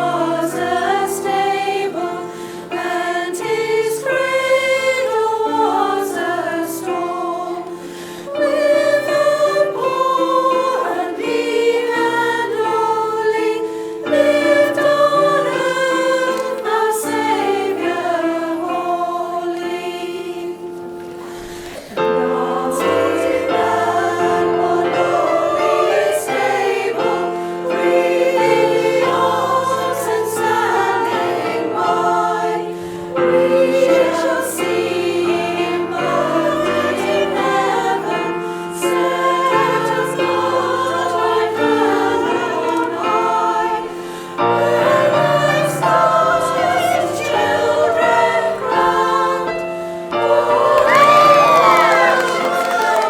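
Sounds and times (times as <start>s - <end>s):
women's choir singing: 0.0s - 53.0s.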